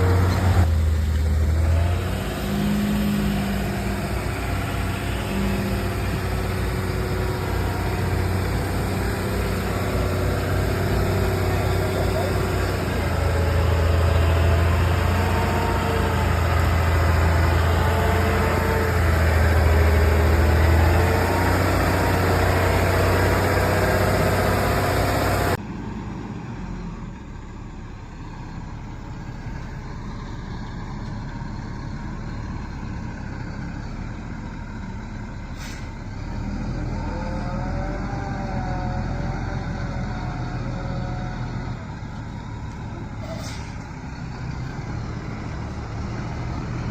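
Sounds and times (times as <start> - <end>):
diesel truck engine droning: 0.0 - 46.9.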